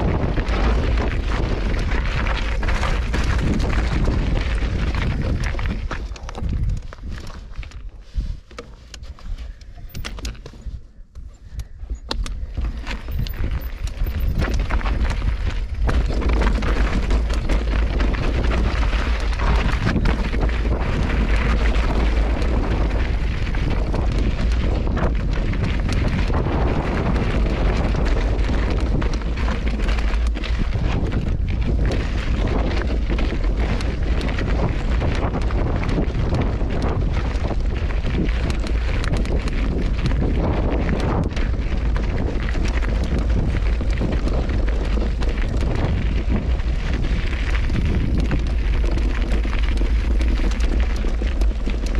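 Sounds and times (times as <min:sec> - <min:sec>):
tyres rattling over rocks: 0:00.0 - 0:51.9
wind buffeting microphone: 0:00.0 - 0:51.9.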